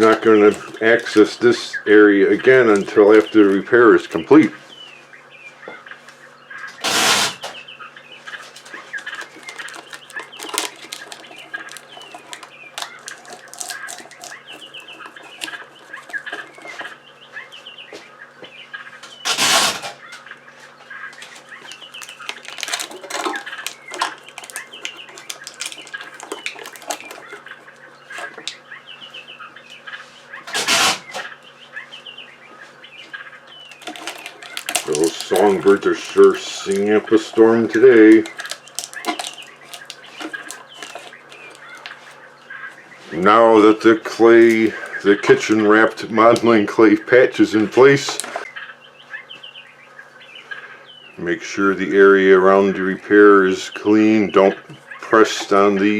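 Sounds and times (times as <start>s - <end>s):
songbirds chirping and singing: 0.0s - 55.9s.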